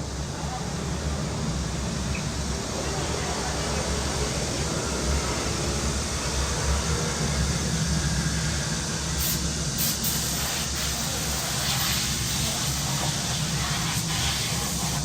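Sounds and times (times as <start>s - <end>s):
low city rumble: 0.0s - 15.0s
cicadas buzzing: 1.3s - 15.0s.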